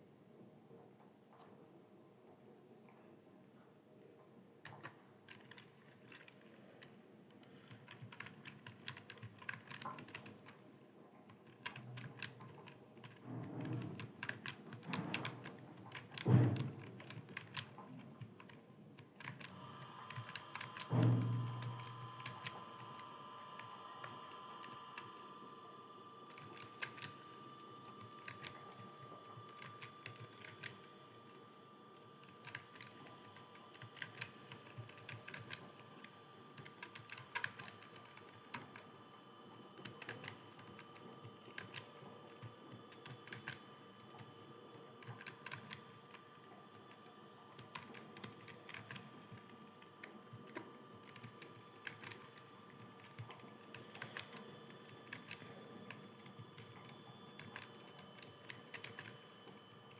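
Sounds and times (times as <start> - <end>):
faint steady hum: 0.0 - 59.9
keyboard typing: 4.6 - 10.7, 11.3 - 25.6, 26.2 - 39.0, 39.6 - 59.9.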